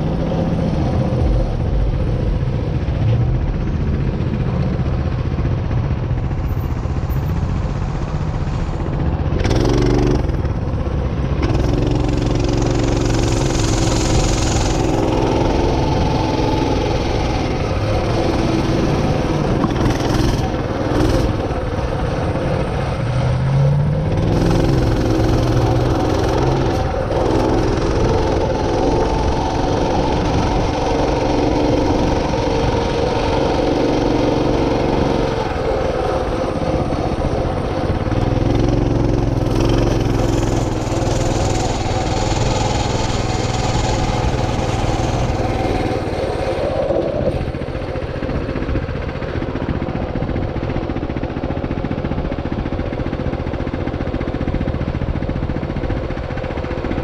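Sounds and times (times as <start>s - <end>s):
small vehicle engine running: 0.0s - 57.0s.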